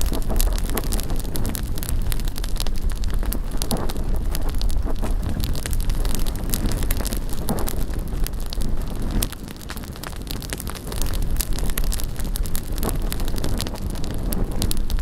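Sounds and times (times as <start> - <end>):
bonfire crackling and popping: 0.0 - 15.0
wind on microphone: 0.0 - 15.0.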